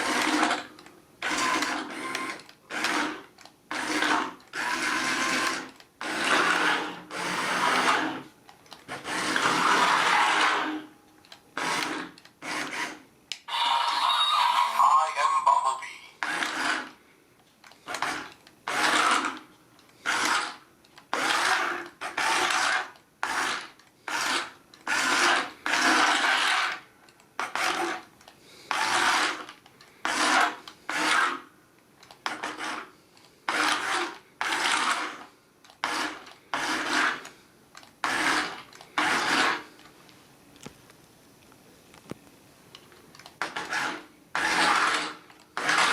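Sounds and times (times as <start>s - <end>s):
toy motor and gears whirring: 0.0s - 10.8s, 11.6s - 14.8s, 17.7s - 26.8s, 27.4s - 39.8s, 43.4s - 45.9s.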